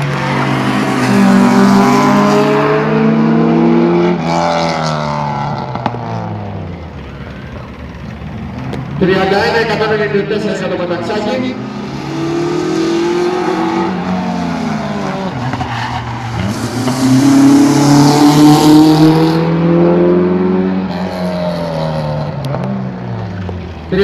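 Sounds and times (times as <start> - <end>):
rally car engine revving: 0.0 - 23.8.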